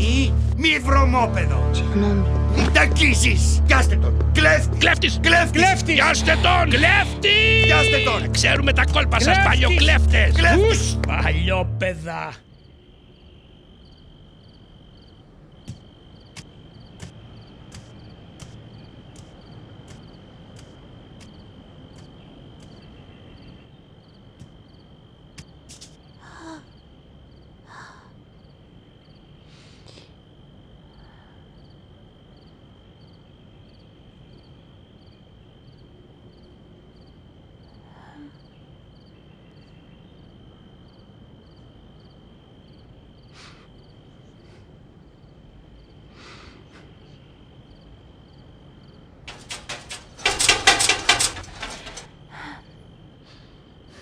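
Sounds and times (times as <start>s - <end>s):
crickets chirring: 2.6s - 54.0s.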